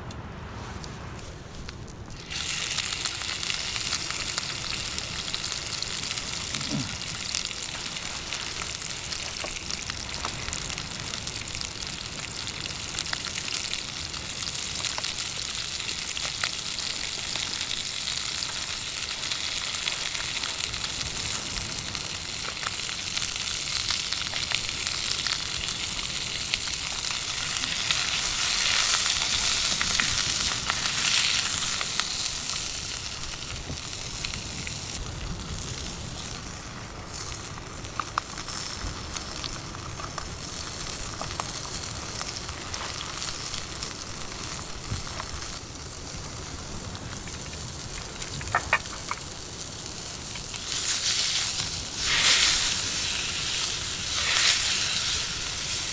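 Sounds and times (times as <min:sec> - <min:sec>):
fire crackles: 0:00.0 - 0:55.9
food sizzling over campfire: 0:00.0 - 0:55.9.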